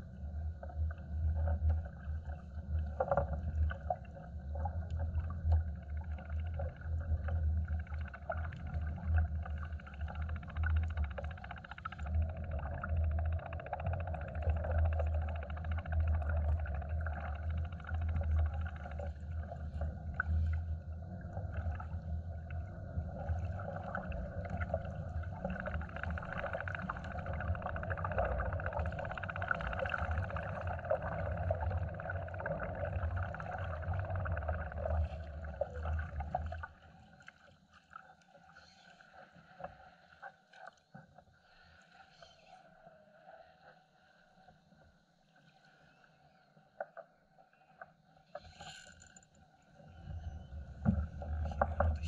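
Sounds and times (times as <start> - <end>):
water around kayak hull: 0.0 - 44.5, 45.5 - 52.0.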